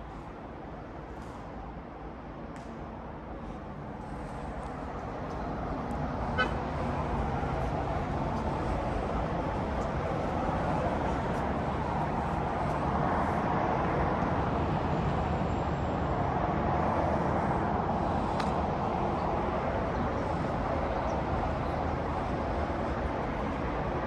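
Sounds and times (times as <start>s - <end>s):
road traffic rushing: 3.1s - 24.0s.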